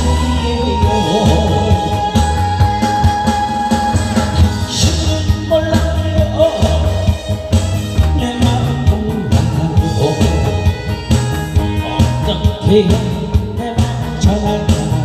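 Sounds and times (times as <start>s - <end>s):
live cymbals and drums: 0.0s - 15.0s
man singing into microphone: 0.0s - 15.0s
song with drum beat over pa: 0.0s - 15.0s.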